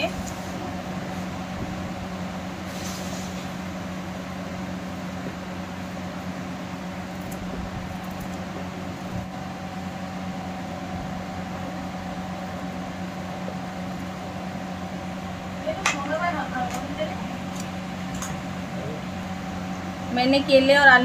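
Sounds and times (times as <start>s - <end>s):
appliance humming: 0.0s - 21.0s.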